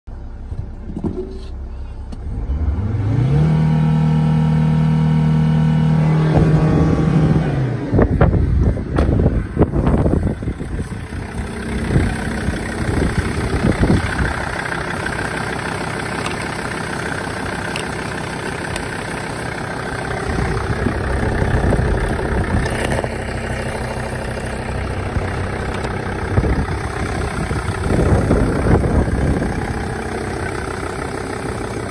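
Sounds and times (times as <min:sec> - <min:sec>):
diesel engine idling: 0:00.1 - 0:31.9.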